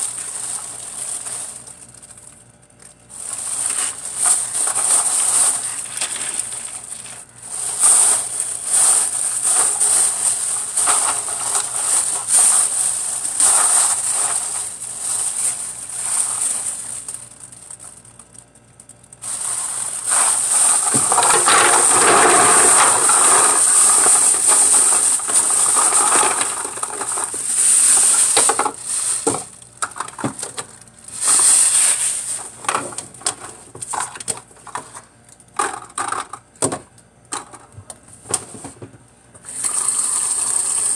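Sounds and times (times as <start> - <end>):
plastic tubes clattering: 0.0 - 2.4, 3.1 - 18.3, 19.1 - 38.8, 39.4 - 40.9
plastic bag crinkling: 0.0 - 36.4, 39.4 - 40.9.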